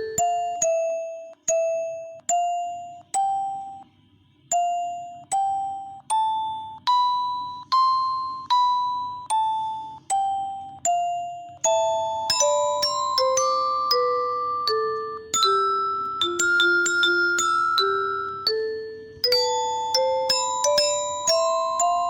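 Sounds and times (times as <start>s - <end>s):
bell-like melody: 0.0s - 22.0s.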